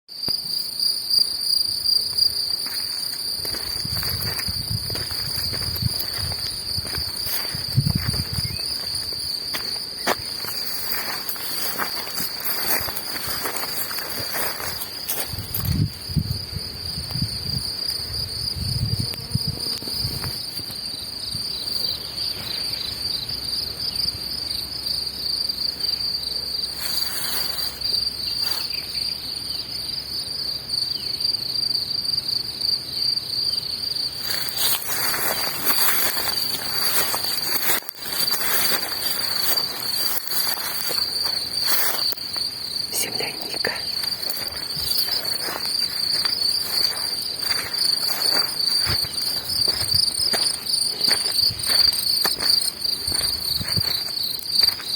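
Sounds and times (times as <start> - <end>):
insects singing: 0.1 - 54.9.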